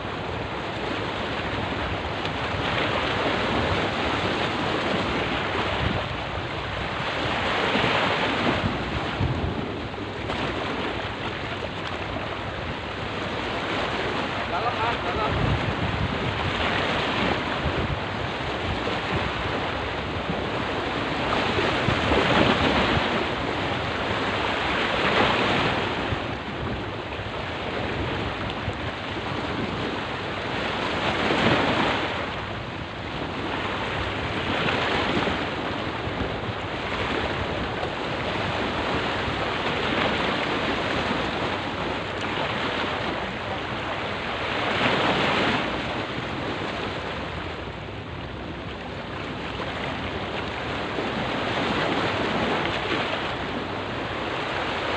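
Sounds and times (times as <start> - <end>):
sea waves splashing against rocks: 0.0 - 54.9.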